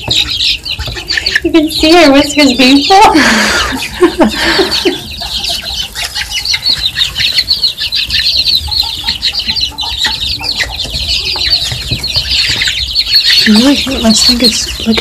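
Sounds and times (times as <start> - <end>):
baby chicks peeping: 0.0 - 15.0.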